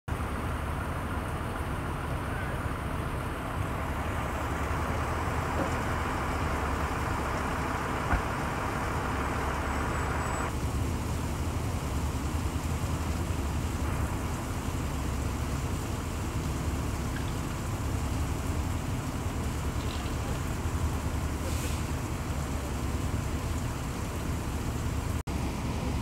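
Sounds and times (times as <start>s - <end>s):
fire truck engines idling: 0.1s - 26.0s.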